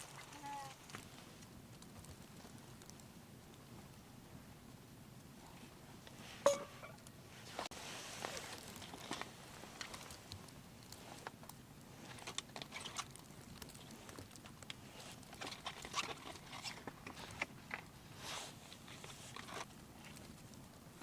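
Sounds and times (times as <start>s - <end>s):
faint crunching and clicking: 0.0s - 21.0s.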